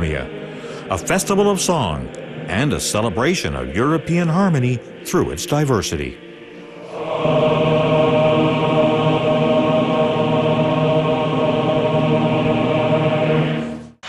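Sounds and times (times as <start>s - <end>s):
choir holding a chord: 0.0s - 14.0s.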